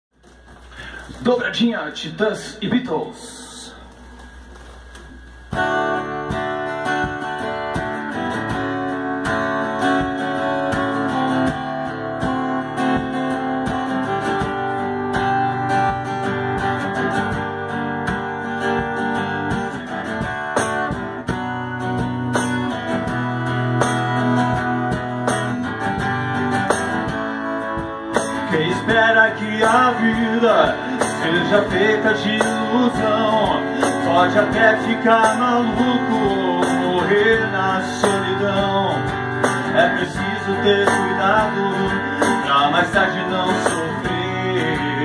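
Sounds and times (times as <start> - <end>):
acoustic guitar strumming chords: 2.6 - 45.0.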